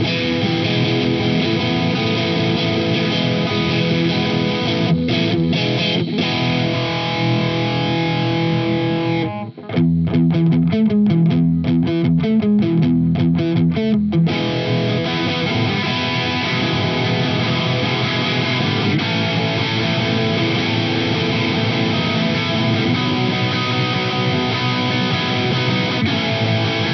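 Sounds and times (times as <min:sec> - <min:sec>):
overdriven electric guitar chords: 0:00.0 - 0:26.9.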